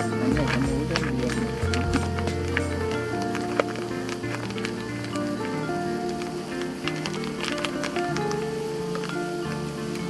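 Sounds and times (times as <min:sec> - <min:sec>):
held melodic notes: 0:00.0 - 0:10.0.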